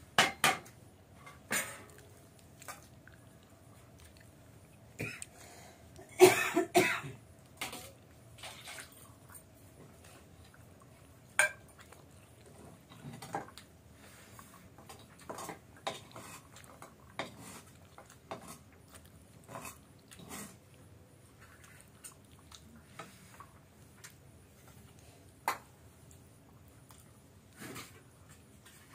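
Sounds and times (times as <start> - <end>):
chewing: 1.2 - 6.1, 7.4 - 28.9.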